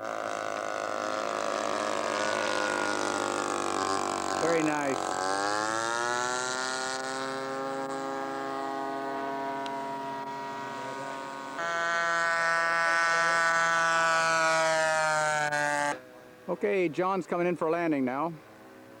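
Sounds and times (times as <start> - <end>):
model plane engine buzzing drone: 0.0 - 16.6, 18.3 - 19.0.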